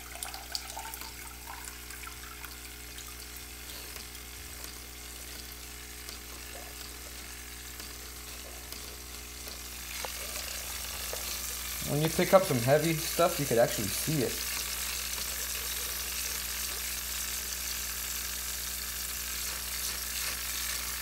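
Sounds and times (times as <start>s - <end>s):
gravel siphon humming: 0.0s - 21.0s.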